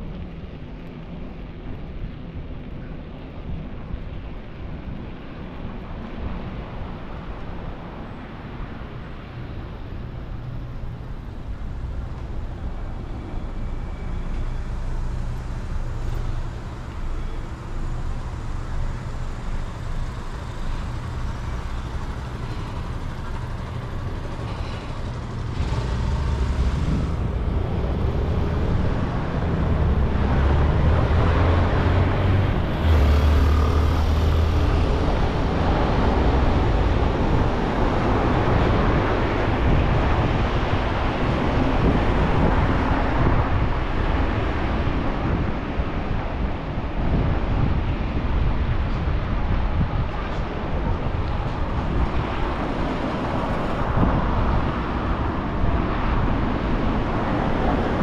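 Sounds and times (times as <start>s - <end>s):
passing cars and tyres rumbling: 0.0s - 58.0s.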